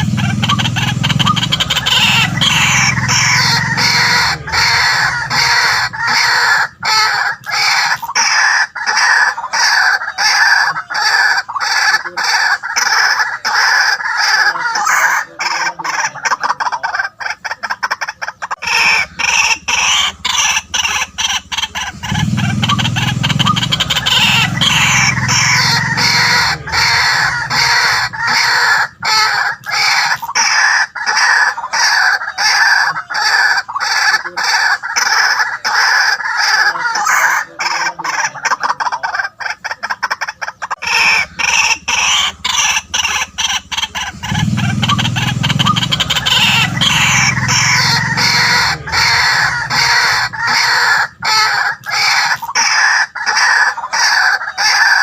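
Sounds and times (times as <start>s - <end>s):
waterhens calling harshly: 0.0s - 55.0s.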